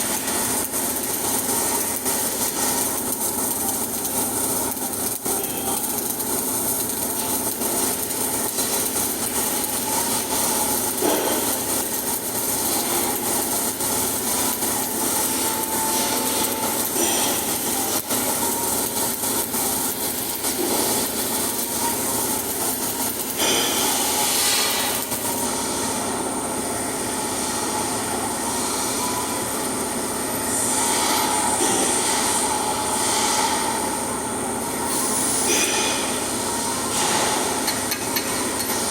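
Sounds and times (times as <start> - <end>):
welding arc crackling: 0.0 - 27.1, 34.7 - 38.9.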